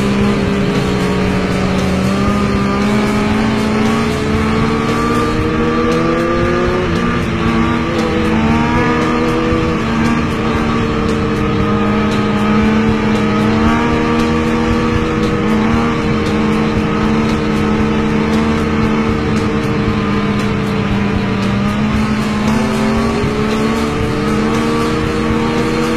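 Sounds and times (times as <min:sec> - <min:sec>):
other motorcycles running: 0:00.0 - 0:25.9
sport bike engine at high revs: 0:00.0 - 0:25.9.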